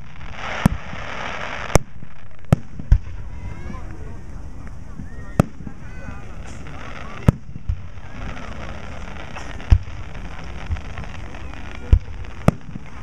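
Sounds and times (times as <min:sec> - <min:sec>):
fireworks booming: 0:00.0 - 0:13.0
steady background hiss: 0:00.0 - 0:13.0.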